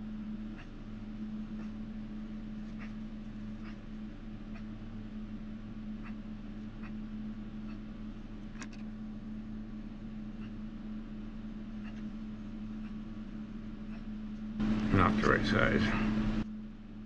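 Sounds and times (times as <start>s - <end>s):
fan or motor humming: 0.0s - 17.0s.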